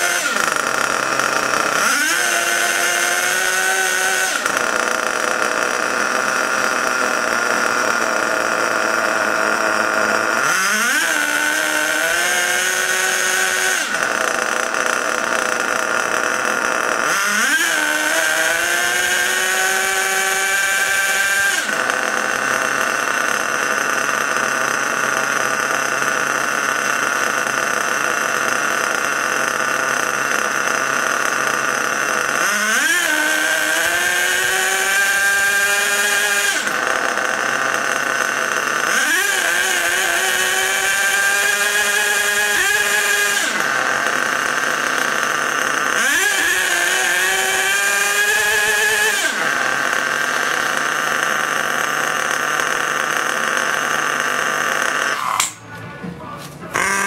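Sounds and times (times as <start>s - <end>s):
nitro engine revving: 0.0s - 57.0s.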